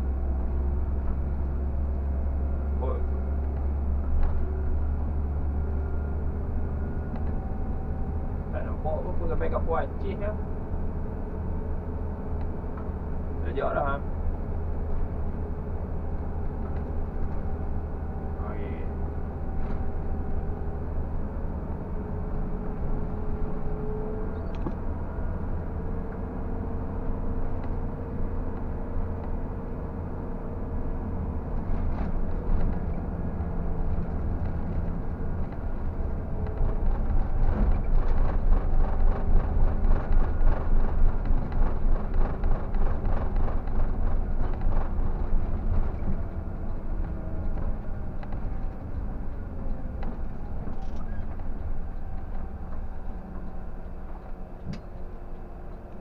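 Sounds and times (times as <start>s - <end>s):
coach diesel engine cruising: 0.0s - 56.0s
road and cabin noise: 0.0s - 56.0s.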